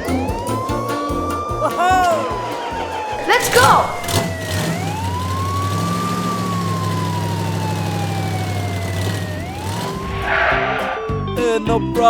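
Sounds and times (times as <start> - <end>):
wailing siren: 0.0 - 11.3.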